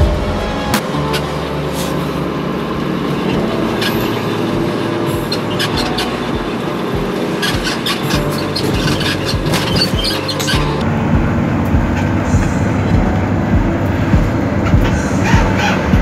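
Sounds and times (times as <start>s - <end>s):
bus engine and road hum: 0.0s - 16.0s.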